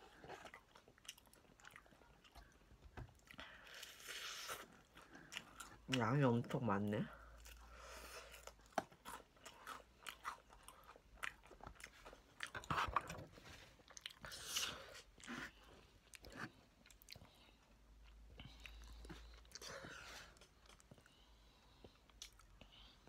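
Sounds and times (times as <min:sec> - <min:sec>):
crunching and chewing fried chicken: 0:00.0 - 0:23.0.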